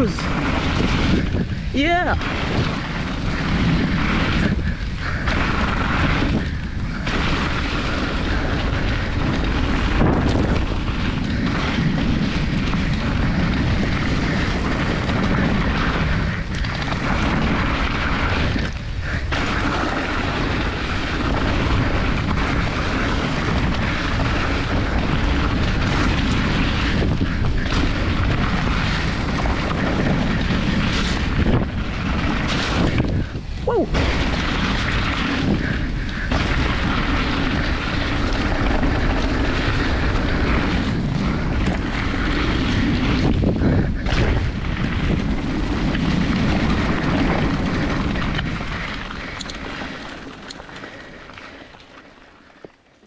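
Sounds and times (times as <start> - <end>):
wind buffeting microphone: 0.0 - 52.6
bike tyres on wet dirt: 0.0 - 53.0.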